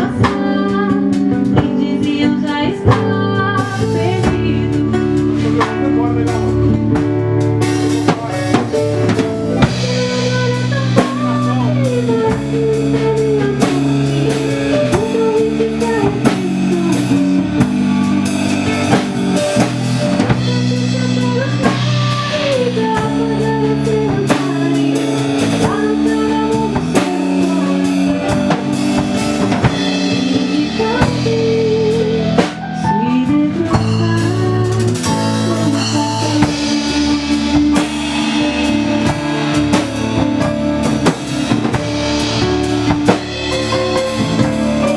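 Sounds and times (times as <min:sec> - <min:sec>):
gliding lead melody: 0:00.0 - 0:44.9
rock band playing: 0:00.0 - 0:44.9.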